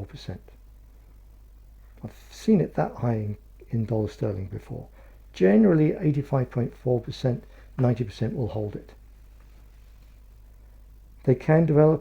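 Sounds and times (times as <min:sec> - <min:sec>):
faint low hum with hiss: 0:00.0 - 0:12.0.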